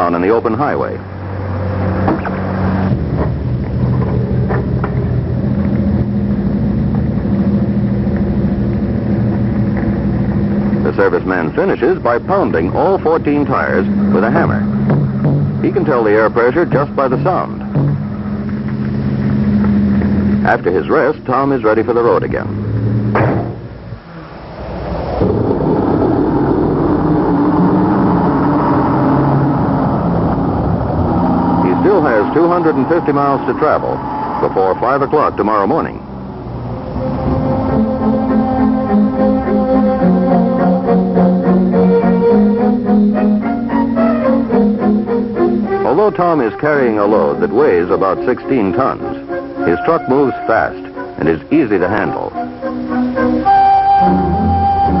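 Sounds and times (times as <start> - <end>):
truck engine idling: 0.0 - 24.6, 25.2 - 55.0.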